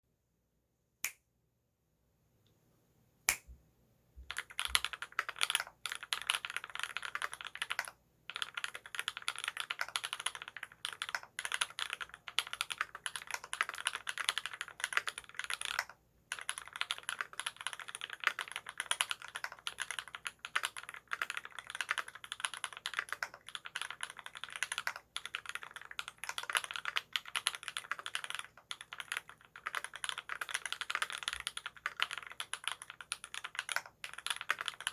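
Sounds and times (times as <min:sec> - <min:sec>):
mechanical keyboard typing: 0:04.3 - 0:34.9.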